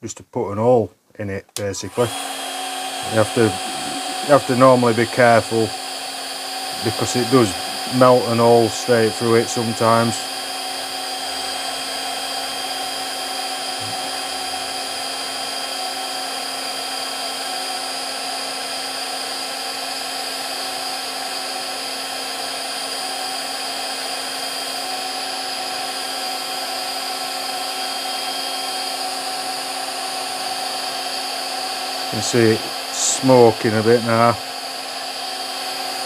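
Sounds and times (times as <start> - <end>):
heat gun fan humming: 1.5 - 36.0.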